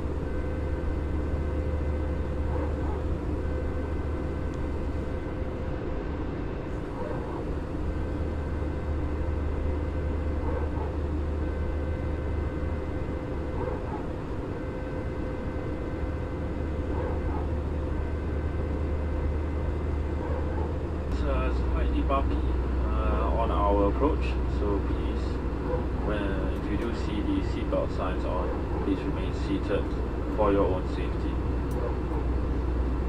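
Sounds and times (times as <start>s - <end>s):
constant hum: 0.0s - 33.0s
faint high whine: 0.0s - 33.0s
jet engine and airflow drone: 0.0s - 33.0s.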